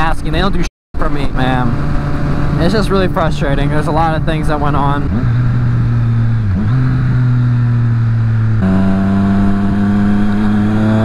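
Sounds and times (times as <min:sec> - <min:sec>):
motorcycle engine running: 0:01.0 - 0:11.0.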